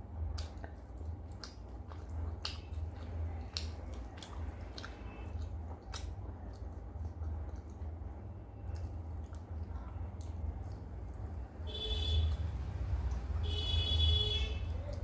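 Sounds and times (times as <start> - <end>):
wet chewing: 0.0 - 13.5, 14.6 - 15.0
fingers squishing food: 0.0 - 13.9, 14.6 - 15.0
steady low hum: 0.0 - 15.0.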